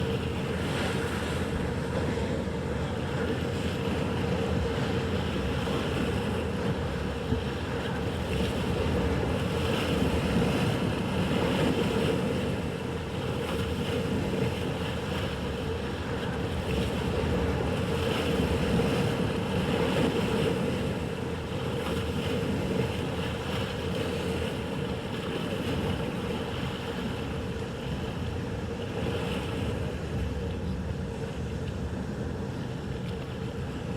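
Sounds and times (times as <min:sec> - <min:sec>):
motorboat engine running: 0:00.0 - 0:33.9
waves breaking: 0:00.0 - 0:33.9.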